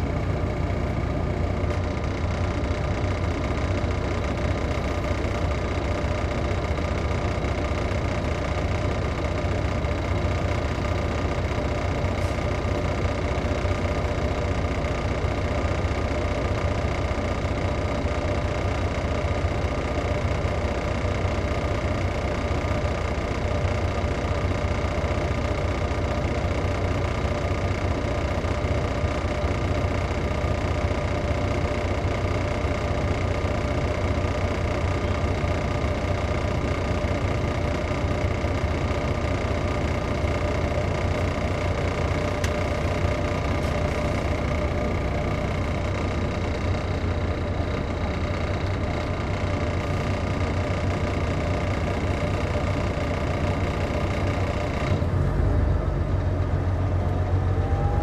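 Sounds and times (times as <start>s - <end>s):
diesel bus engine running: 0.0s - 58.0s.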